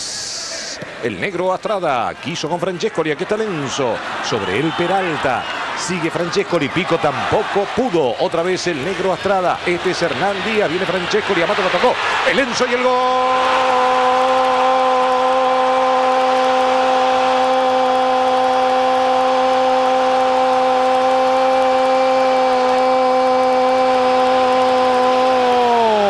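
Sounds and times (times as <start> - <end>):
stadium crowd noise: 0.0 - 26.0
commentator shouting goal cry: 2.7 - 26.0.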